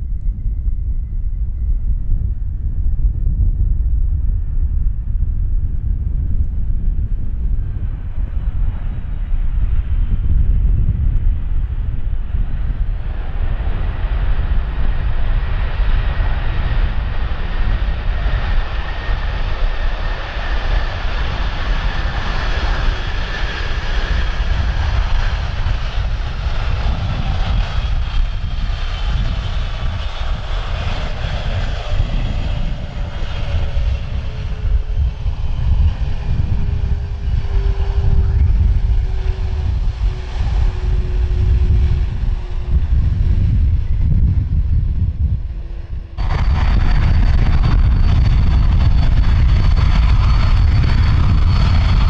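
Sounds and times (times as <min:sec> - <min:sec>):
jet engines rumbling and whining: 0:00.0 - 0:52.0.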